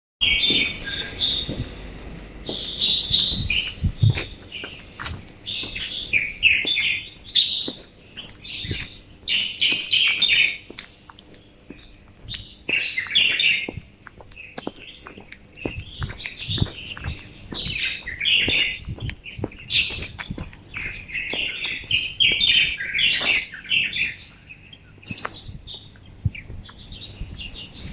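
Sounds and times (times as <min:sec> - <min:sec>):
songbirds chirping and singing: 0:00.2 - 0:27.9.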